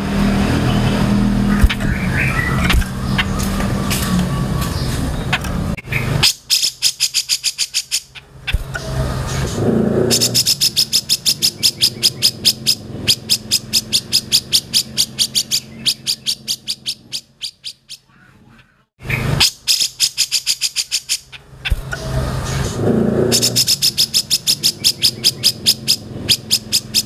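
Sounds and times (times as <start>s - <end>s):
bulbul singing fast sharp notes: 0.6s - 3.5s, 4.4s - 9.0s, 10.0s - 18.1s, 19.4s - 22.6s, 23.3s - 27.0s.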